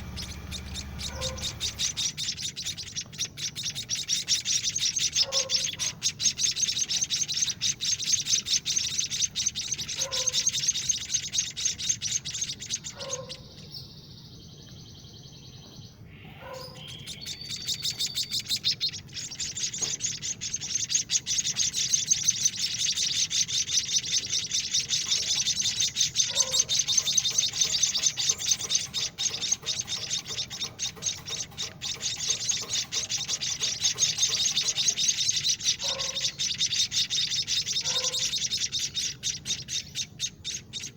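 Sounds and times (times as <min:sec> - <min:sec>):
nestlings chirping: 0:00.0 - 0:40.9
short lower bird calls: 0:00.0 - 0:40.9.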